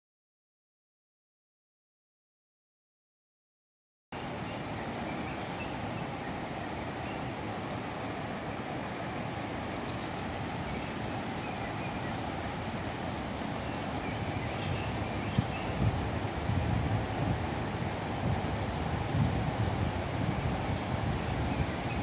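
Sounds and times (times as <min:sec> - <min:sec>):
waterfall and rushing river: 0:04.2 - 0:22.0.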